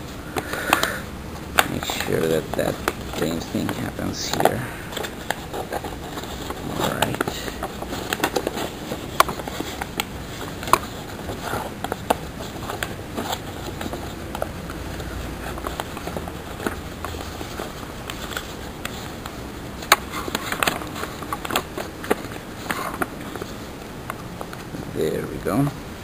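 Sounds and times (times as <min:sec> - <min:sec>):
paper rustling and crinkling: 0:01.4 - 0:25.2.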